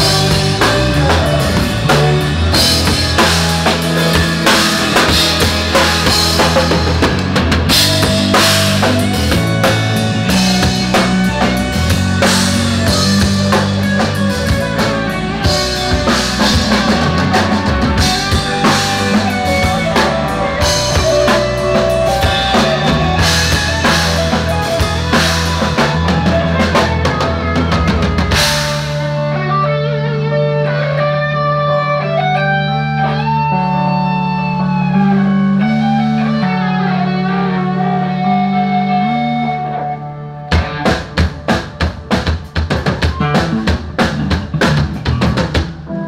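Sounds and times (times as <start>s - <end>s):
bass guitar low notes: 0.0s - 46.0s
drum kit playing: 0.0s - 46.0s.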